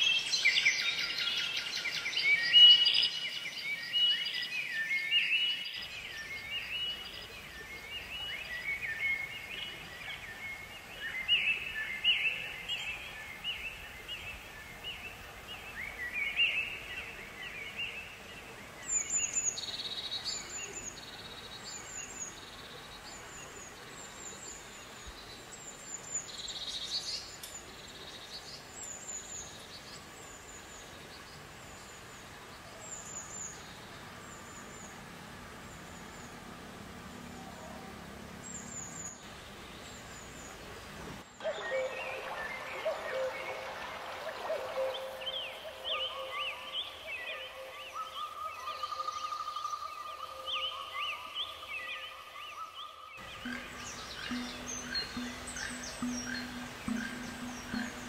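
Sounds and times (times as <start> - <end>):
birds chirping and warbling: 0.0 - 58.0.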